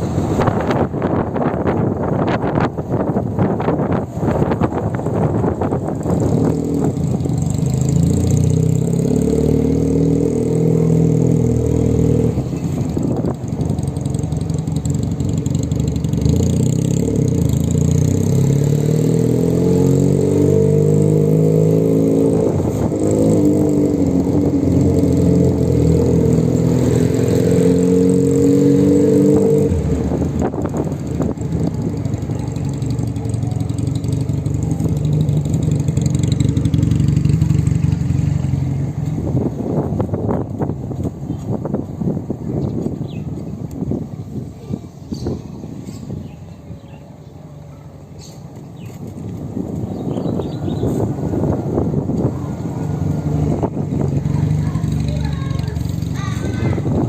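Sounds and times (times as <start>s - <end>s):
vehicle motor running: 0.0s - 57.0s.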